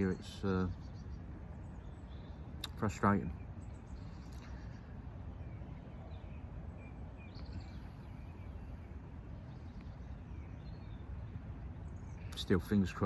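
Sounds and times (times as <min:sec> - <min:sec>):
faint bird chirps: 0:00.0 - 0:13.0
wind buffeting microphone: 0:00.0 - 0:13.0.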